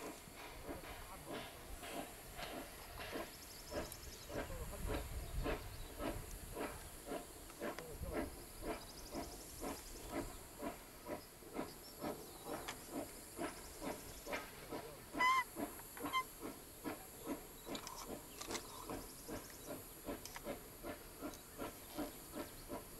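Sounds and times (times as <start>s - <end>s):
steam locomotive exhaust chuffing: 0.0s - 22.9s.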